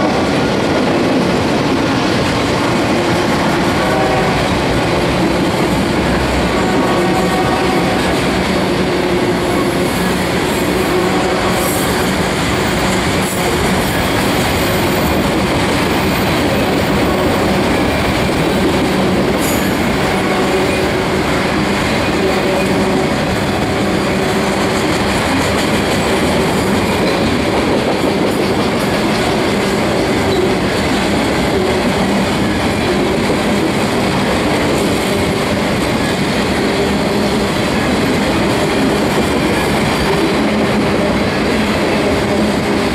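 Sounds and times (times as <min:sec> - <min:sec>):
freight cars rumbling on rails: 0:00.0 - 0:42.9.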